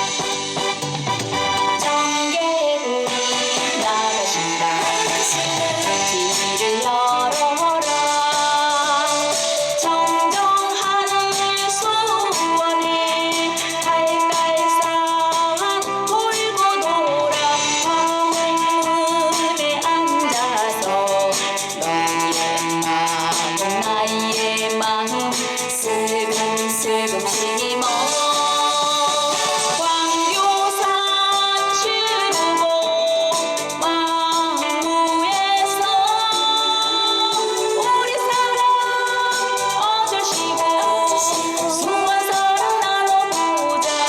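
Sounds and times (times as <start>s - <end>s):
trot song with steady beat: 0.0s - 44.0s.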